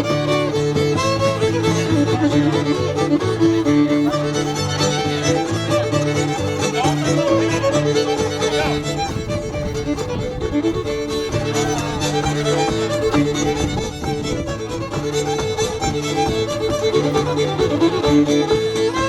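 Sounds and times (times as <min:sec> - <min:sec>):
fiddle dance tune: 0:00.0 - 0:19.0.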